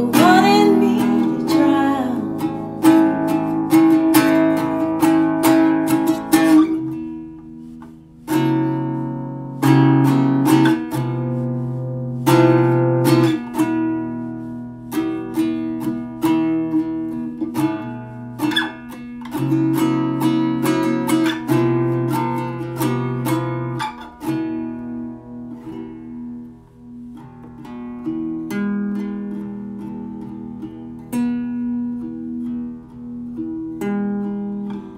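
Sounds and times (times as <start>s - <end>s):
strummed acoustic guitar chords: 0.0s - 34.9s.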